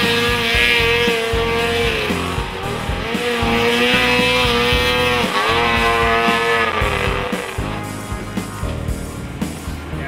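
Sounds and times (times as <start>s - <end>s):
distorted electric guitar: 0.0s - 9.3s
bass line: 0.0s - 10.0s
drums: 0.0s - 10.0s.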